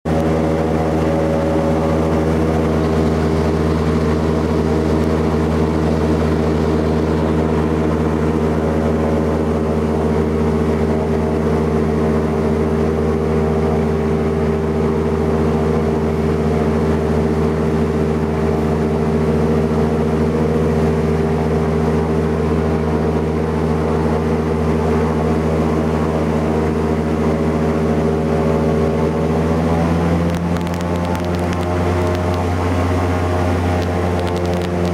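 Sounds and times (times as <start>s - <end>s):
boat engine running: 0.1s - 34.9s.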